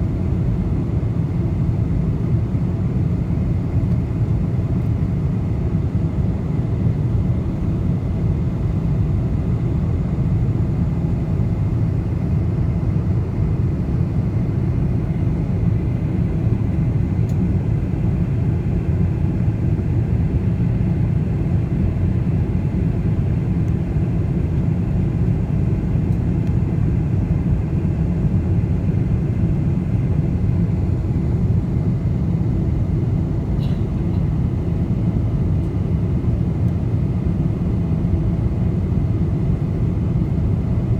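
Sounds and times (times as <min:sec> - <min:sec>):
low rumble of aircraft engines: 0:00.0 - 0:40.9.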